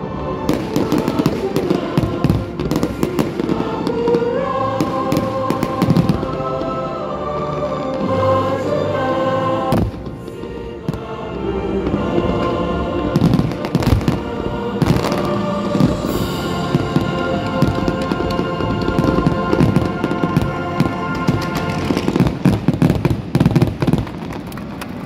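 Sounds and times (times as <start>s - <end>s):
loud music with sustained notes: 0.0s - 23.9s
fireworks bangs and crackles: 0.5s - 6.8s, 9.7s - 11.1s, 11.8s - 25.0s.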